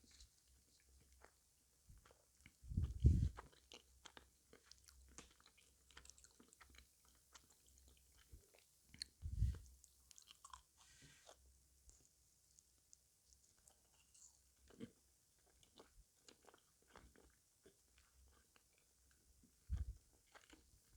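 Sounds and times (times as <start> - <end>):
chewing and crunching sweets: 0.0 - 20.9.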